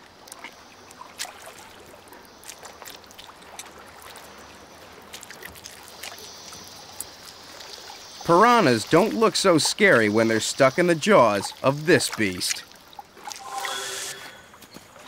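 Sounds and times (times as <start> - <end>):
water lapping and trickling: 0.0 - 15.0.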